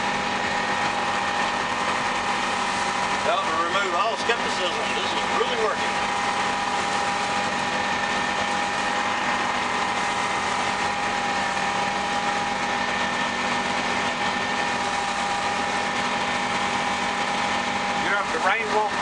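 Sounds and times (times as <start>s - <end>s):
combine harvester running with whine: 0.0s - 19.0s.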